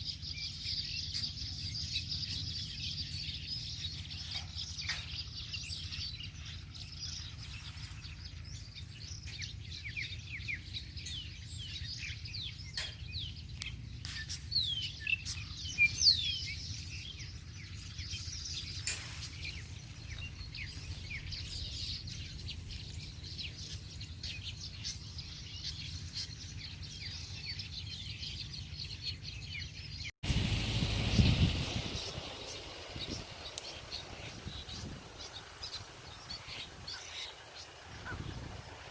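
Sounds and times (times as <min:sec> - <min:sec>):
birds chirping and calling: 0:00.0 - 0:30.1, 0:31.0 - 0:38.9
wind rumbling on microphone: 0:02.2 - 0:29.0, 0:29.8 - 0:38.9.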